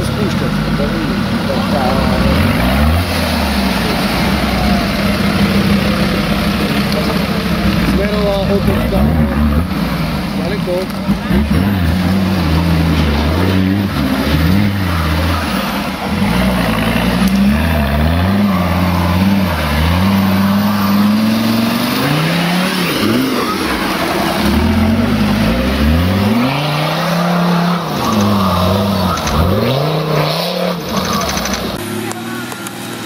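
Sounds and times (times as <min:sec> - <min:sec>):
off-road engines revving: 0:00.0 - 0:33.0.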